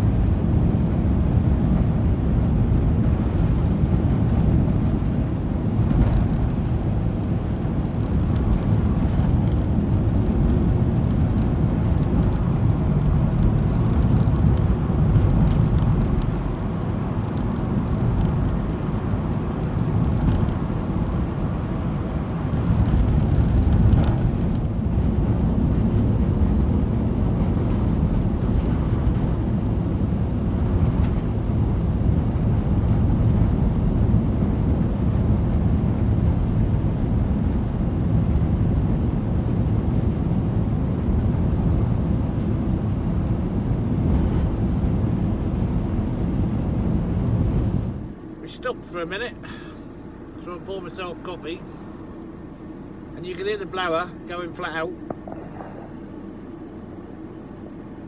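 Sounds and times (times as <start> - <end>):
van engine and road rumble: 0.0 - 58.0.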